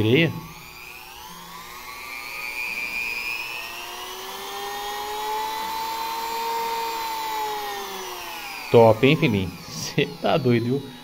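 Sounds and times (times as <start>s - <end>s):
rotary tool motor whine: 0.0s - 11.0s.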